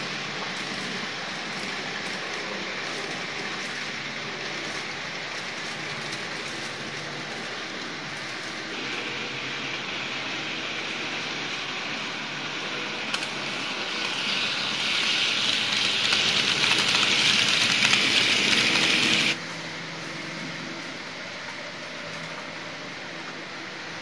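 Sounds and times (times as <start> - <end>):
model train running past: 0.0 - 19.8
steady hum: 0.0 - 24.0.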